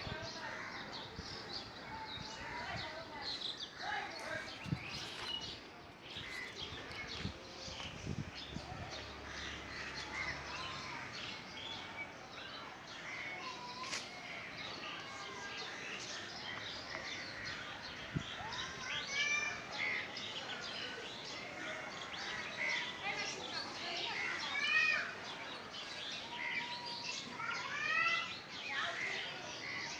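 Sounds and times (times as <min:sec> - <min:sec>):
birds chirping chorus: 0:00.0 - 0:29.9.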